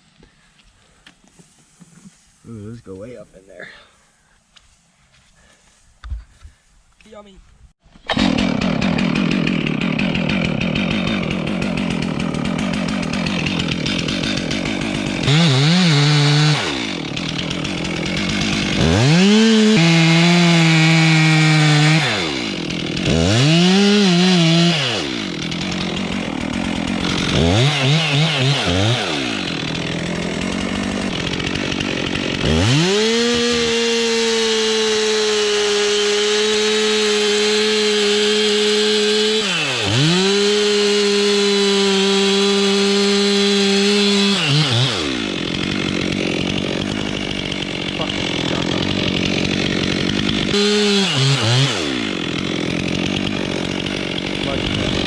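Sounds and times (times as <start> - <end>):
chainsaw cutting wood: 7.8 - 55.0
chainsaw idling: 8.0 - 55.0.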